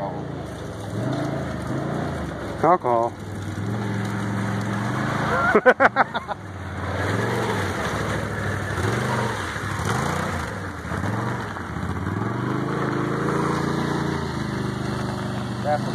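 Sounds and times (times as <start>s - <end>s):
four-wheeler engine revving: 0.0s - 15.9s.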